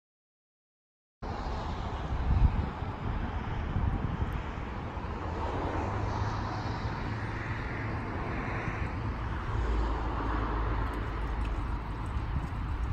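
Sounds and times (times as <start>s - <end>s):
outdoor background noise: 1.2s - 12.9s.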